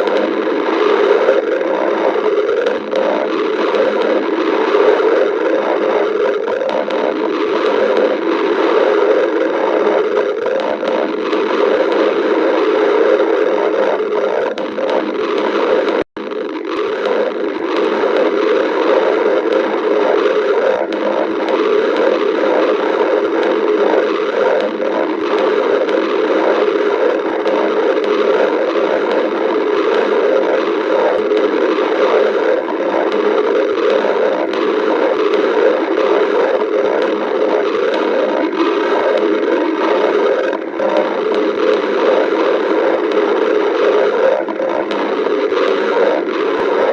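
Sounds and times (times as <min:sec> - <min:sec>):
stomach growling: 0:00.0 - 0:46.9.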